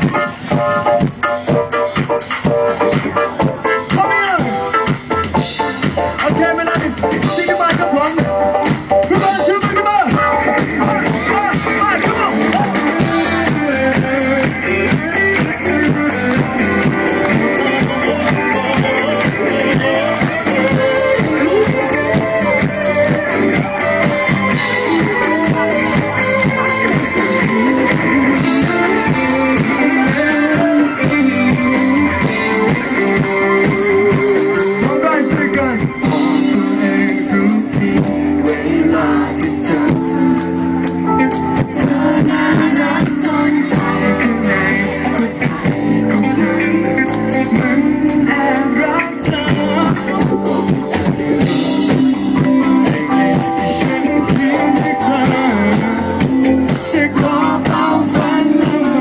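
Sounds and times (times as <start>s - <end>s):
drum kit: 0.0s - 59.0s
electric guitars: 0.0s - 59.0s
male singer: 6.2s - 59.0s.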